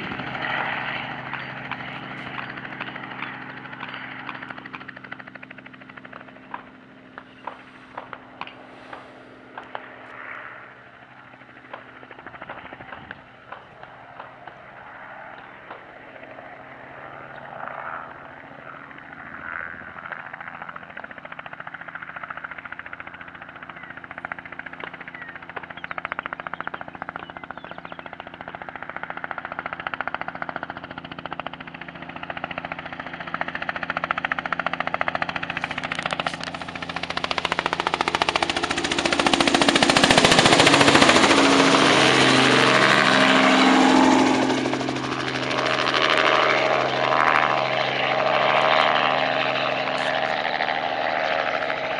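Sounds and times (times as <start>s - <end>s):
helicopter rotor chopping: 0.0s - 51.9s.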